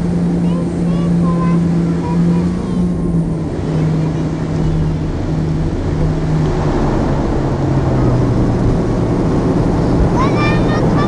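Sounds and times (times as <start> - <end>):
low rumble: 0.0 - 11.0
turboprop engines droning: 0.0 - 11.0.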